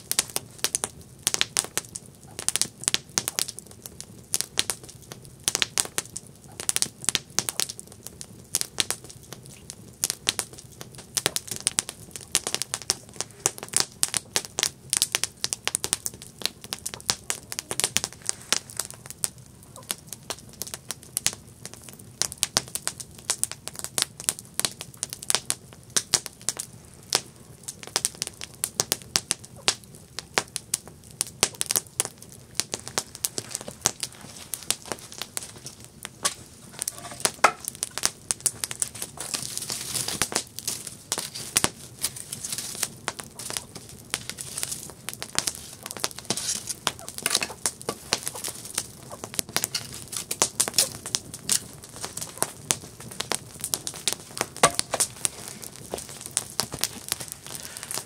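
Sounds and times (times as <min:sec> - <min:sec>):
campfire wood crackling and popping: 0:00.0 - 0:58.0
low steady fire hiss: 0:00.0 - 0:58.0.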